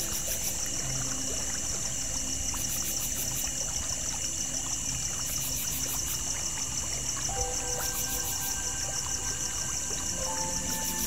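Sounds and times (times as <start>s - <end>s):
creek water trickling: 0.0s - 11.0s
night insects chorus: 0.0s - 11.0s.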